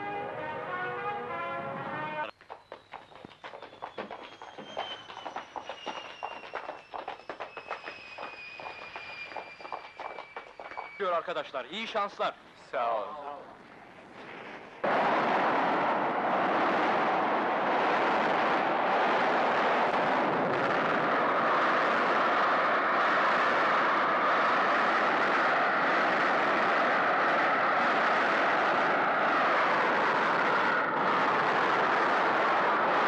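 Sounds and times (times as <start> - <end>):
jet engines roaring at takeoff: 2.9 - 12.2, 14.6 - 33.0.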